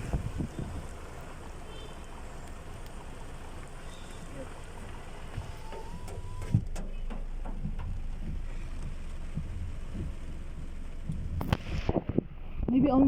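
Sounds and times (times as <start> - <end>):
heavy rain falling: 0.0 - 12.2.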